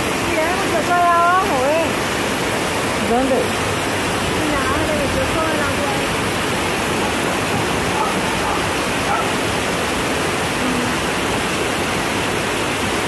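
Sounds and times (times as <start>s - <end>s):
floodwater rushing: 0.0s - 13.0s
heavy rain: 0.0s - 13.0s.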